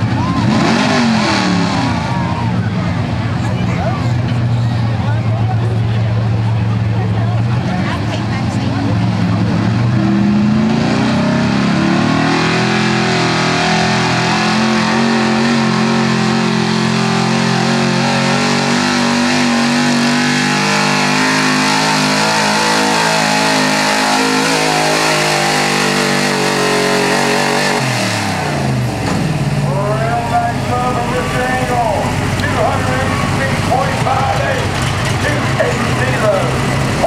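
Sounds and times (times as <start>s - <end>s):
pickup engine revving high: 0.0s - 37.0s.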